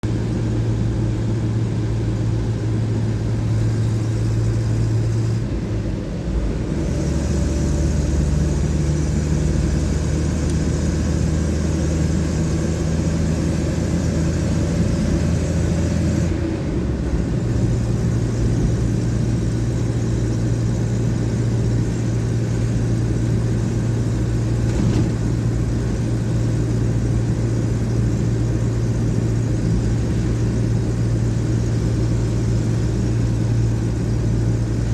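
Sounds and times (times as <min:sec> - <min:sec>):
car engine and road drone: 0:00.0 - 0:34.9.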